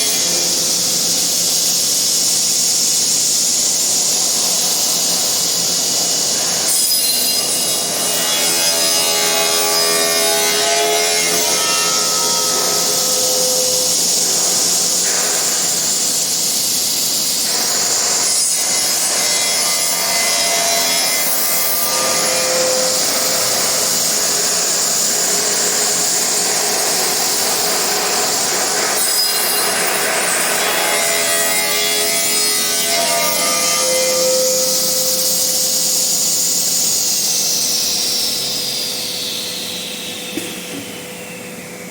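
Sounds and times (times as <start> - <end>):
machine cutting wood: 2.5 - 41.0.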